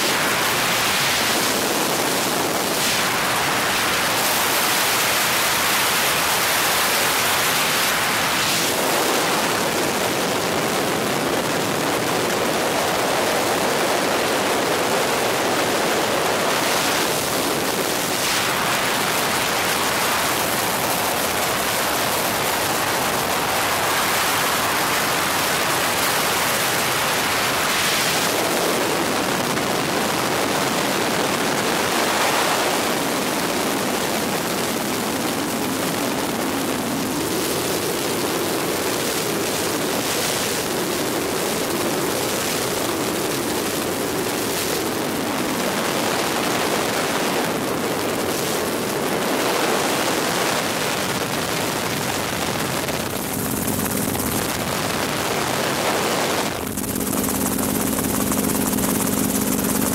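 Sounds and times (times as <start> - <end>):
helicopter cabin rushing noise: 0.0 - 33.9, 34.8 - 59.9.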